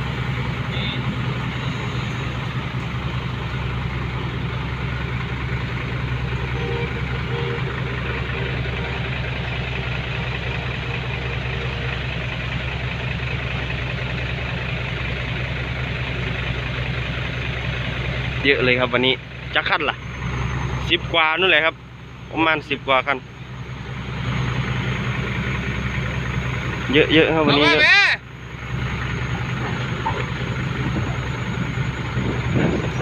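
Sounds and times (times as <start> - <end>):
truck engine droning: 0.0 - 33.0.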